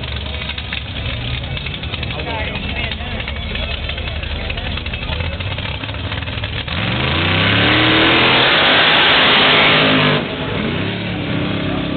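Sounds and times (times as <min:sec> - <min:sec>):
car engine idling and revving: 0:00.0 - 0:11.9.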